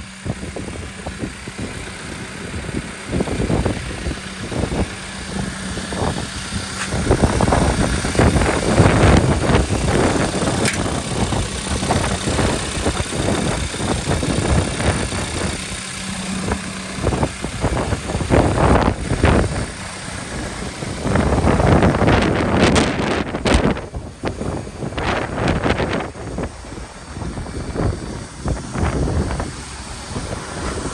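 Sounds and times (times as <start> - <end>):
diesel engine running: 0.0 - 30.9
wind buffeting microphone: 0.0 - 30.9.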